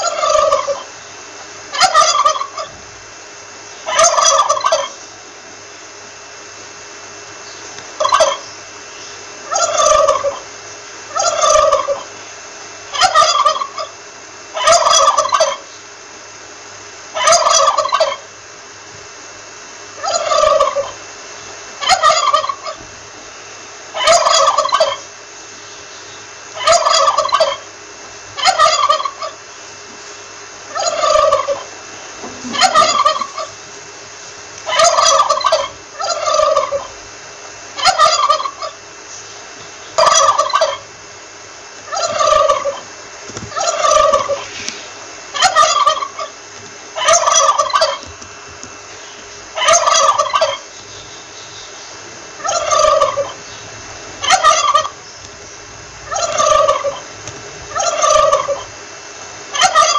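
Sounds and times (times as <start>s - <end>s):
turkey gobbling: 0.0s - 2.8s, 3.8s - 5.2s, 7.7s - 8.6s, 9.4s - 15.8s, 17.1s - 18.4s, 19.5s - 23.2s, 23.9s - 33.7s, 34.4s - 41.0s, 41.7s - 44.6s, 45.2s - 59.9s.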